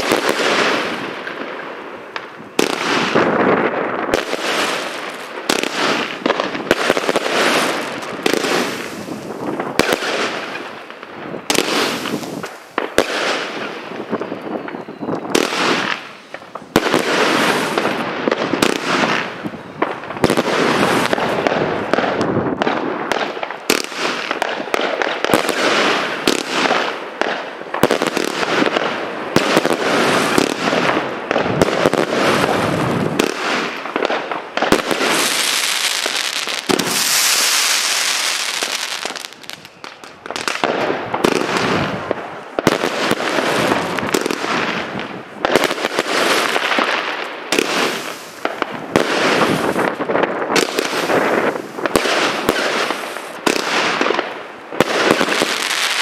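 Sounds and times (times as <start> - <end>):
firework bangs: 0.0 - 56.0.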